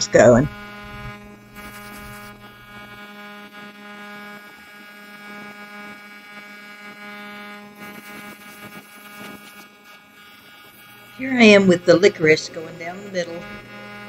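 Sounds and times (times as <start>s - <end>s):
spray gun hissing: 0.0s - 3.4s, 5.9s - 13.9s
air compressor humming: 0.0s - 14.0s.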